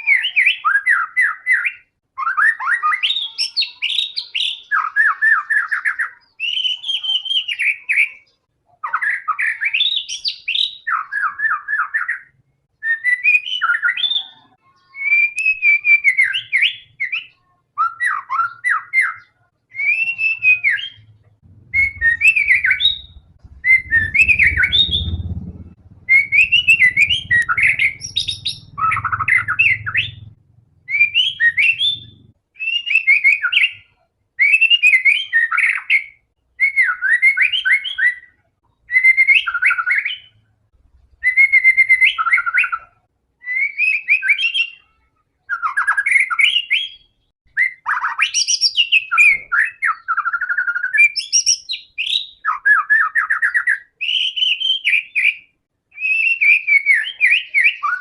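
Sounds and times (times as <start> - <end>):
songbird whistling rich phrases: 0.0 - 40.4, 41.2 - 58.0.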